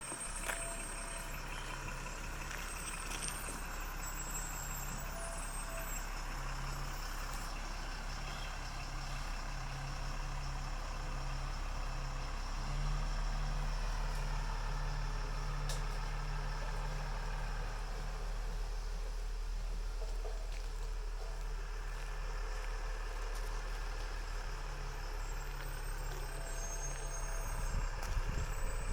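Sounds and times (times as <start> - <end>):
diesel truck engine humming: 0.0 - 28.9.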